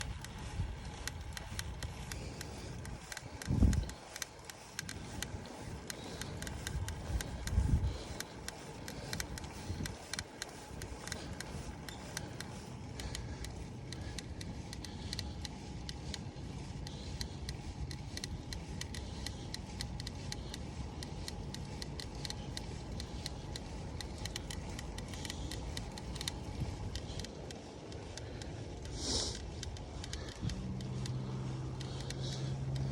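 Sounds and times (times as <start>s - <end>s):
rapid clicking from bike handlebar: 0.0s - 32.9s.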